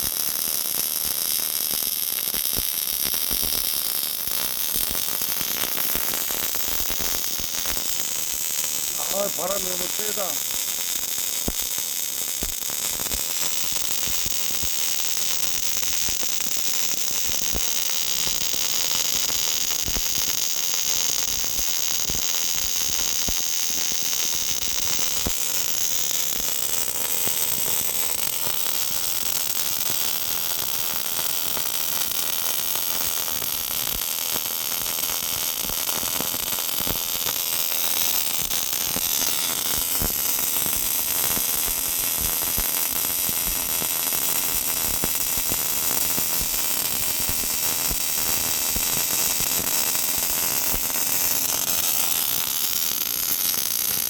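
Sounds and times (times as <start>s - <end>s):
welding arc hiss: 0.0s - 54.0s
welding crackling: 0.0s - 54.0s.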